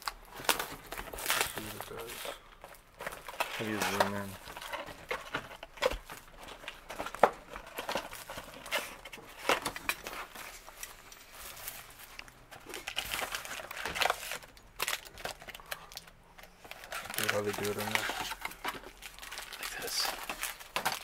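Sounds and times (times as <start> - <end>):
foil packs handled: 0.0 - 21.0
shrink wrap crinkling and tearing: 0.0 - 21.0.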